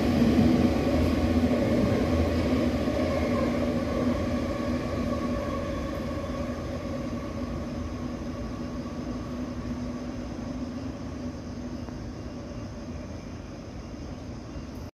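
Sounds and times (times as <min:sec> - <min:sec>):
electric train rolling away: 0:00.0 - 0:14.9.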